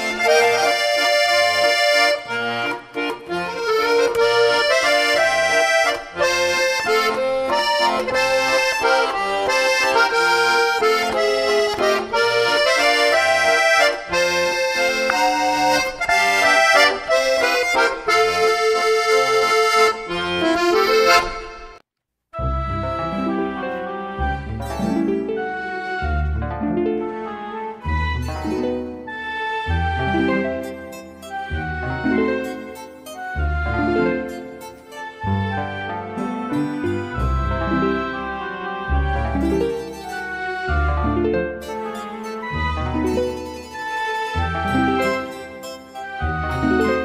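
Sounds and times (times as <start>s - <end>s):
accordion playing quick tune: 0.0s - 21.8s, 22.4s - 47.0s.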